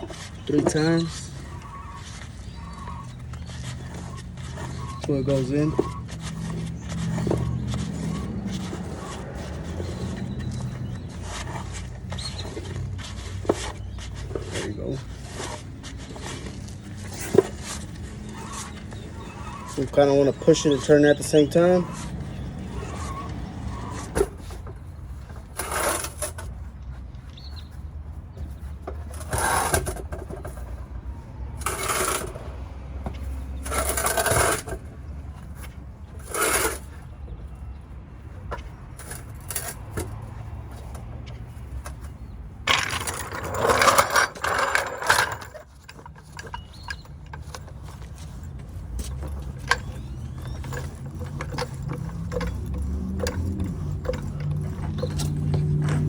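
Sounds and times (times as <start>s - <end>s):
metal scraping and clunking: 0.0s - 56.0s.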